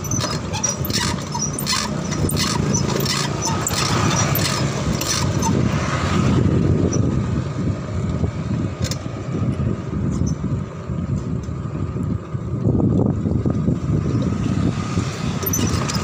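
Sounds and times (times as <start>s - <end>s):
bicycle road noise: 0.0s - 16.0s
street traffic: 0.0s - 16.0s
wind rumble on microphone: 0.0s - 16.0s.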